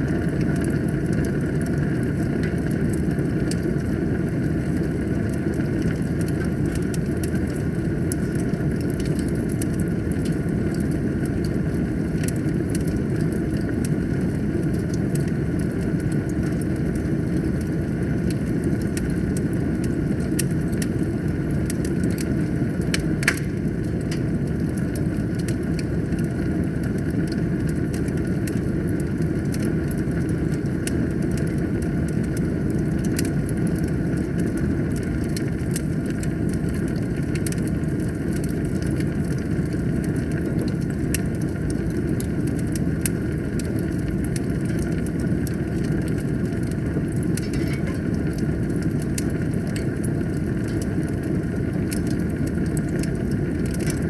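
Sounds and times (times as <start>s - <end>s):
fire rumbling: 0.0s - 54.0s
logs crackling and popping: 0.0s - 54.0s.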